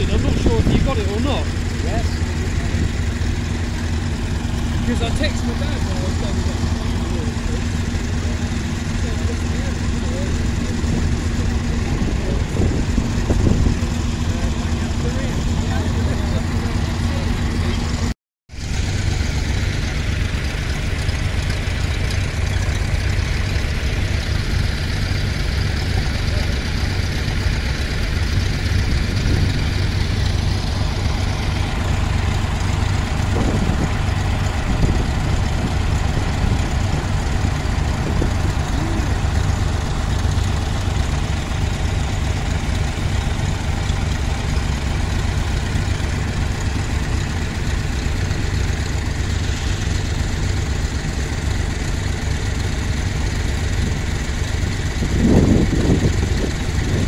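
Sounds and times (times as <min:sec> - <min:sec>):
nearer tractor engine: 0:00.0 - 0:57.0
tractor engines droning: 0:00.0 - 0:57.0.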